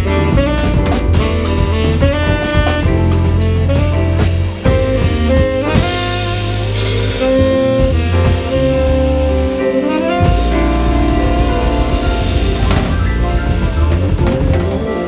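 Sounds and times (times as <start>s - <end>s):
acoustic bass: 0.0s - 15.0s
drum kit: 0.0s - 15.0s
piano: 0.0s - 15.0s
tenor saxophone long notes: 0.0s - 15.0s.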